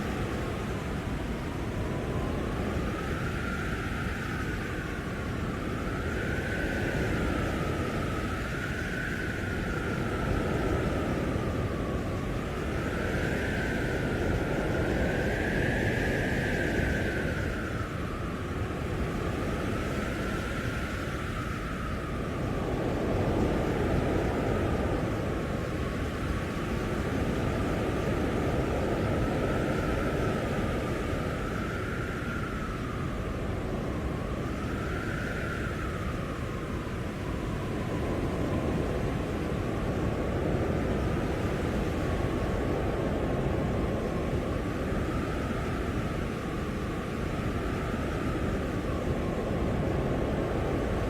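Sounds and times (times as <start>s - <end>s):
blizzard wind rumbling: 0.0s - 51.0s
wind howling: 0.0s - 51.0s.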